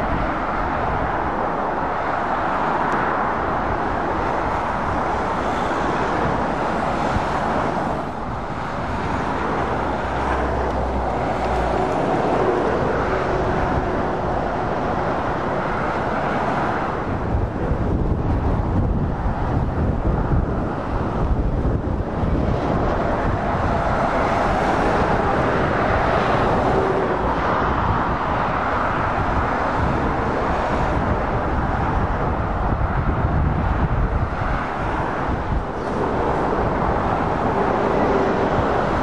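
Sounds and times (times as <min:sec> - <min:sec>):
traffic rushing past: 0:00.0 - 0:39.0.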